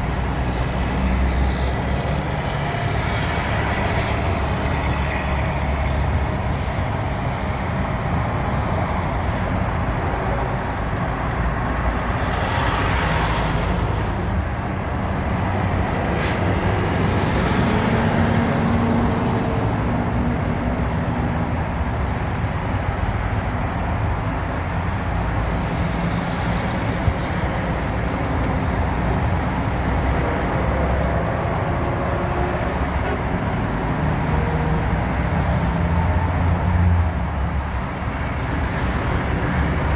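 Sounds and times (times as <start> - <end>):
vehicle engine and tyre rumble: 0.0 - 39.9.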